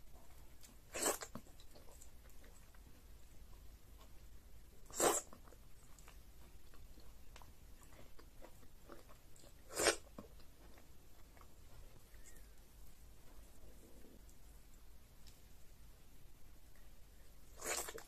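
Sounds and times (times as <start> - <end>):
soft chewing: 0.0 - 15.8, 16.6 - 18.0.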